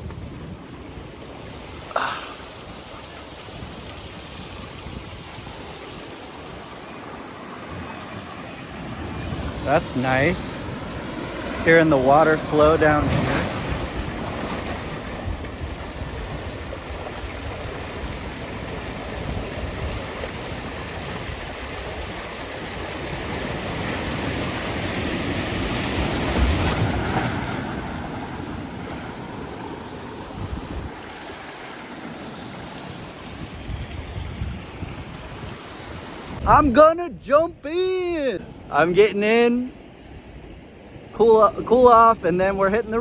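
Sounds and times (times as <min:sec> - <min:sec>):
wind buffeting microphone: 0:00.0 - 0:31.6, 0:32.4 - 0:38.7
water rushing over rocks: 0:00.0 - 0:39.6.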